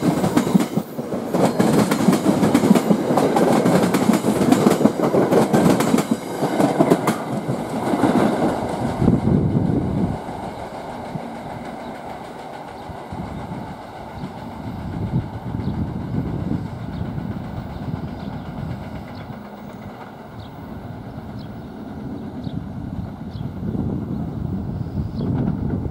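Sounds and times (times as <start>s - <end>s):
train wheels on rails: 0.0s - 25.9s.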